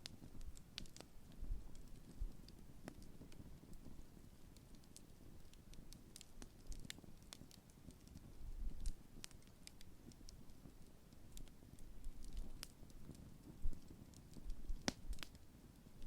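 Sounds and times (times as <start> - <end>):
sharp pops and snaps: 0.0 - 4.0, 4.6 - 15.4
campfire crackling: 0.0 - 16.0
soft low fire rumble: 0.0 - 16.0.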